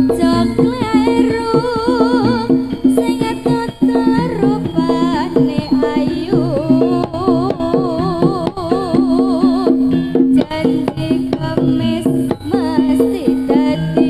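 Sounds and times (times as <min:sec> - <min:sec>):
hand drum strokes: 0:00.0 - 0:14.0
repeating pitched notes: 0:00.0 - 0:14.0
wavering melody with vibrato: 0:00.0 - 0:14.0.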